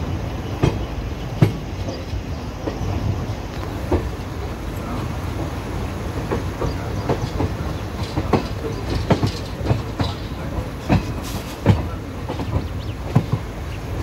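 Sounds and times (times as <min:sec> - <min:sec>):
rumble of wheels on rail: 0:00.0 - 0:14.0
wheels clacking over rail joints: 0:00.4 - 0:14.0.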